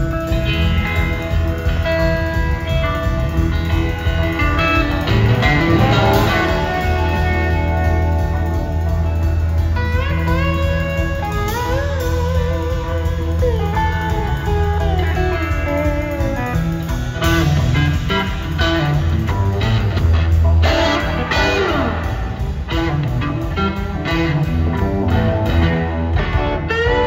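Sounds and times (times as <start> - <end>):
bass and drums: 0.0 - 27.0
electric guitar lead: 0.0 - 27.0.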